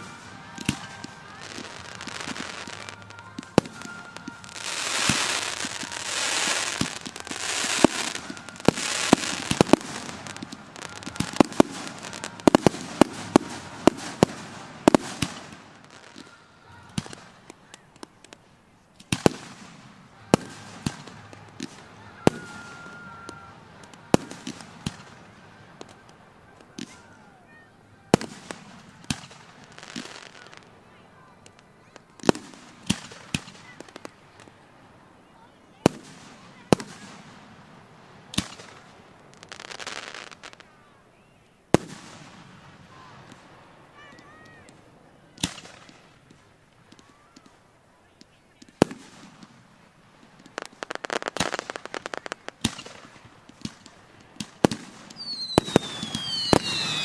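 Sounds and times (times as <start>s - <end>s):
fireworks booming: 0.0s - 34.5s, 41.7s - 47.6s, 48.2s - 57.0s
fireworks hissing and crackling: 0.0s - 57.0s.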